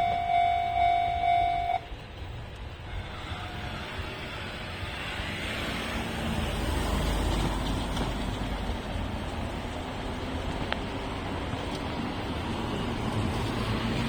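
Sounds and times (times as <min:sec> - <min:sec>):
electric train wheels rumbling: 0:00.0 - 0:14.0.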